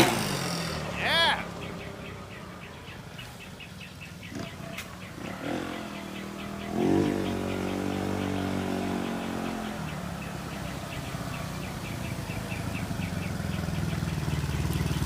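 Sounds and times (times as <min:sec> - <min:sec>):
small motorcycle engine: 0:00.0 - 0:15.0.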